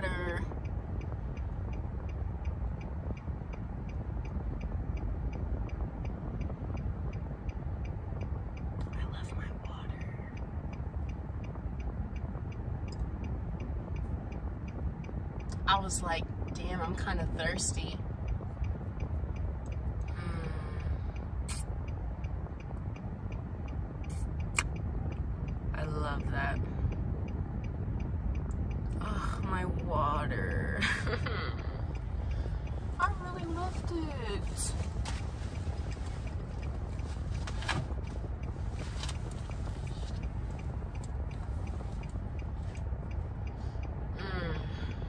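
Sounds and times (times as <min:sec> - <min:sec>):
car engine and road rumble: 0:00.0 - 0:45.0
faint regular ticking: 0:00.0 - 0:45.0.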